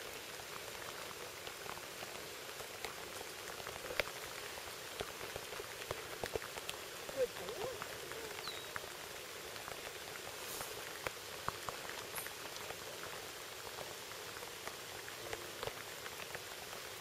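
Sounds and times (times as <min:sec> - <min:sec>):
rain falling on a pond: 0:00.0 - 0:17.0.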